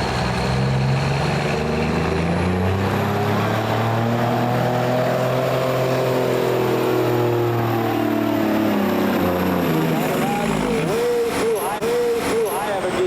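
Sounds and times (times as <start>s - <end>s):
engine running hard under load: 0.0s - 13.0s.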